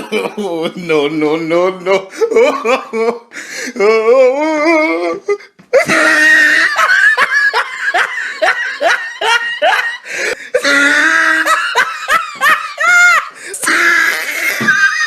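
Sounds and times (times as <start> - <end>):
person laughing loudly: 0.0 - 1.0, 1.9 - 15.0.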